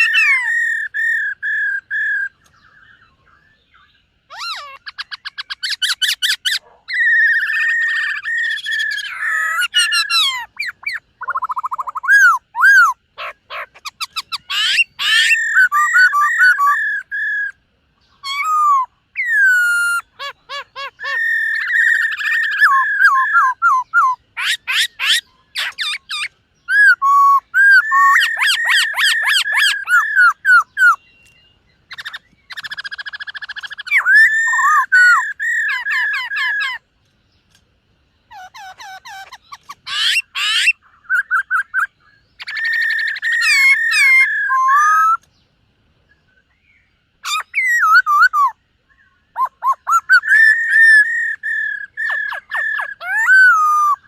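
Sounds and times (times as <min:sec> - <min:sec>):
bird singing loudly: 0:00.0 - 0:36.9, 0:38.3 - 0:45.3, 0:46.3 - 0:54.0.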